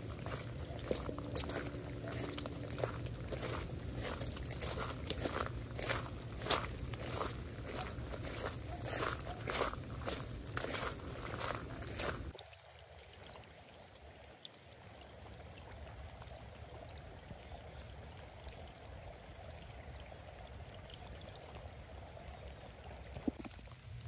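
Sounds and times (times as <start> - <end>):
running water rushing: 0.0 - 24.0.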